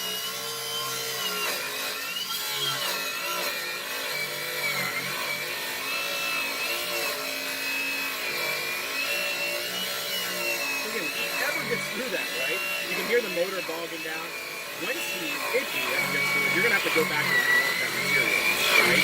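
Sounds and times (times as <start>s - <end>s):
circular saw cutting steel: 0.0s - 19.0s.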